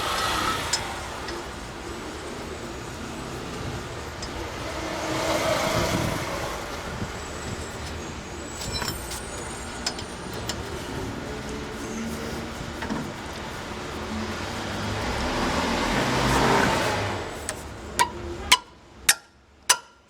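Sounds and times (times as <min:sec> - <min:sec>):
car passing: 0:00.0 - 0:18.5.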